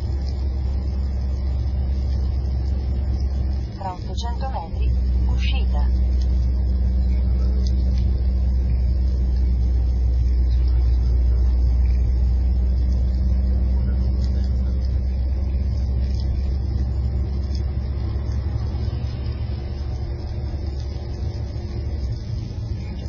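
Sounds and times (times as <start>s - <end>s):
car engine rumble: 0.0s - 23.0s
road noise: 0.0s - 23.0s.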